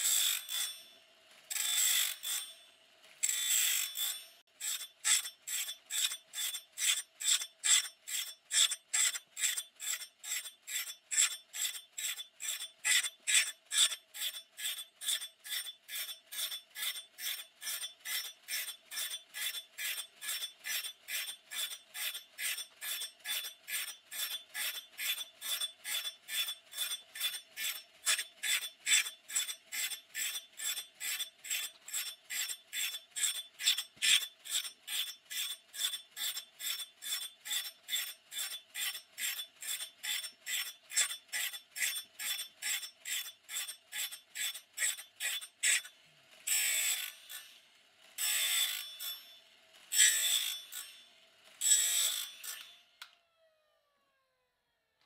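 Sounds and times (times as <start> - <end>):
grinding wheel rasping on blade: 0.0 - 52.8.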